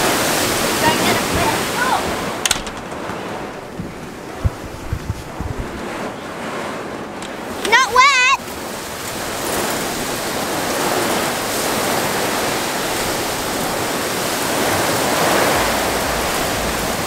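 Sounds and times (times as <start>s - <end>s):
heavy rain with wind: 0.0s - 17.0s.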